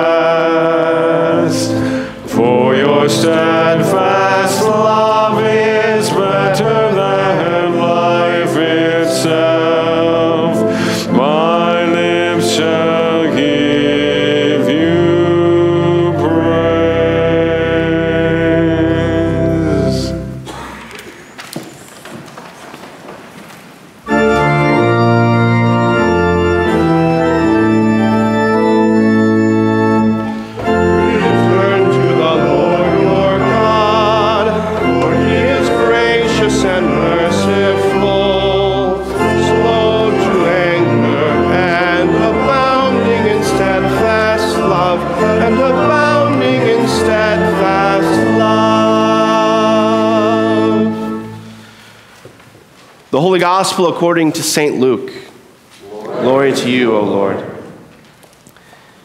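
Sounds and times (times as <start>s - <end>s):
church organ chords: 0.0s - 20.6s, 24.0s - 52.0s
congregation singing: 0.0s - 22.2s, 24.0s - 52.2s, 55.6s - 58.0s.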